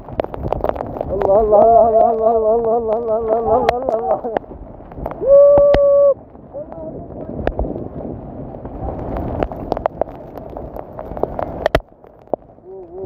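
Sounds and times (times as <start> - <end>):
torrent of rushing water: 0.0 - 13.0.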